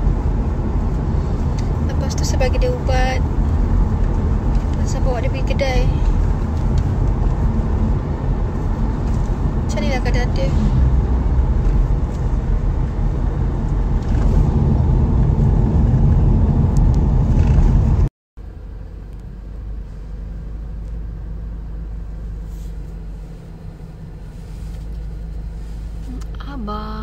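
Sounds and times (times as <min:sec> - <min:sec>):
engine and road rumble in car: 0:00.0 - 0:27.0
quiet car cabin hum: 0:00.0 - 0:27.0.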